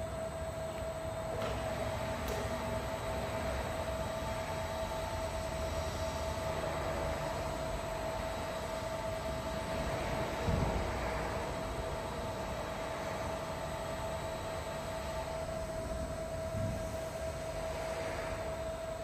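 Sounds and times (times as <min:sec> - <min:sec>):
machine hum with whine: 0:00.0 - 0:19.0.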